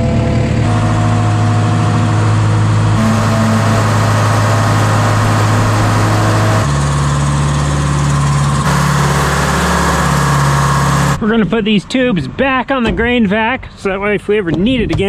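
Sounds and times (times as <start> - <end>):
loader diesel engine running: 0.0 - 13.2.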